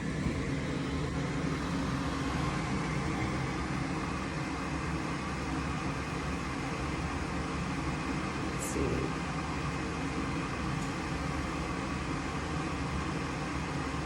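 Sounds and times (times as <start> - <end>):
furnace humming: 0.0 - 14.0.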